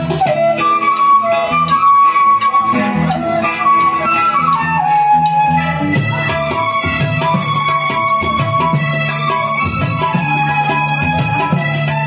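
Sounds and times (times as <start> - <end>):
drum beats: 0.0 - 12.0
flute melody: 0.0 - 12.0
live band accompaniment: 0.0 - 12.0.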